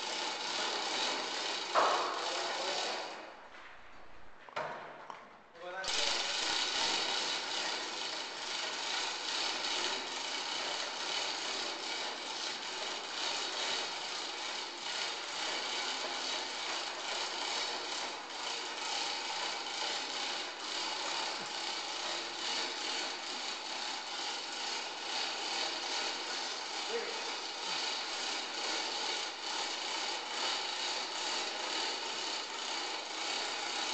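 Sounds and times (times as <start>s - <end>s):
tool rasping on wood: 0.0s - 3.2s, 5.9s - 33.9s.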